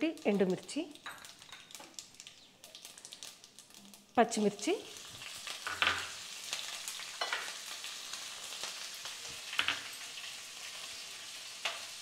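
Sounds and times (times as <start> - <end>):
crackles and pops of frying: 0.0 - 12.0
hot oil sizzling: 0.0 - 12.0.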